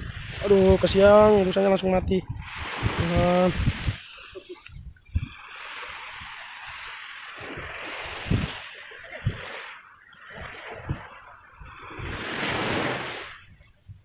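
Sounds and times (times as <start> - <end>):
wind buffeting microphone: 0.0 - 9.6, 10.2 - 14.0
surf: 0.0 - 14.0.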